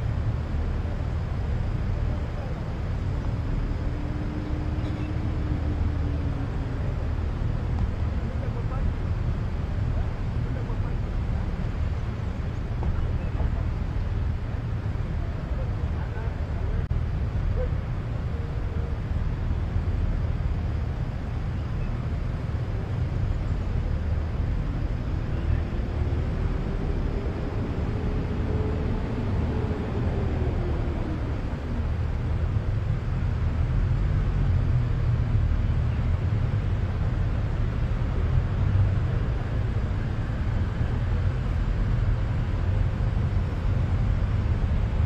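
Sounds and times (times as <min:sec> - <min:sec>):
low outdoor rumble: 0:00.0 - 0:45.0.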